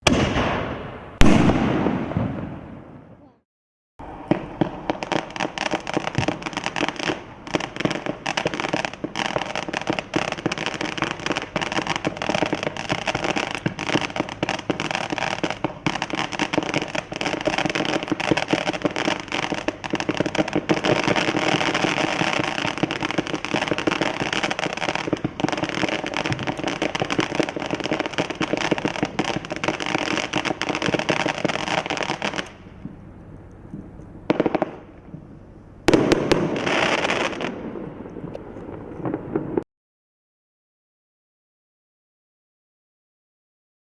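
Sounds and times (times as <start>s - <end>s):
fireworks firing rapidly: 0.0s - 3.4s, 4.0s - 32.8s, 34.2s - 35.3s, 35.9s - 39.6s.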